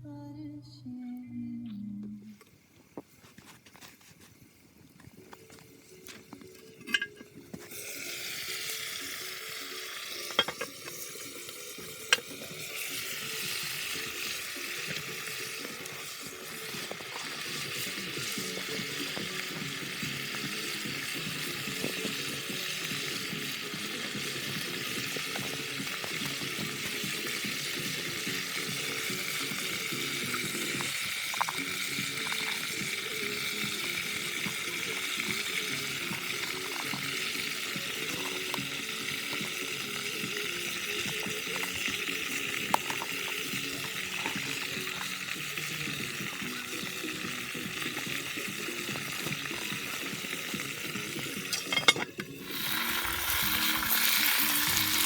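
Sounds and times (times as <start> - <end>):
food sizzling in a pot: 3.8 - 55.0.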